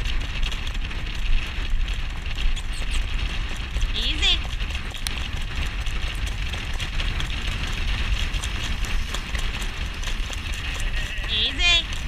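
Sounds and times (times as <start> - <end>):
hooves clicking: 0.0 - 12.0
wheel and road noise: 0.0 - 12.0
wind buffeting camera: 0.0 - 12.0.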